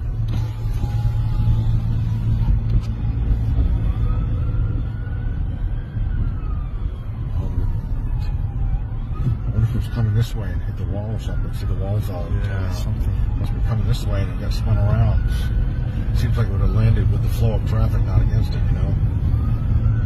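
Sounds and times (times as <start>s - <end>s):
distant siren wailing: 0.0s - 20.0s
road traffic rumble: 0.0s - 20.0s.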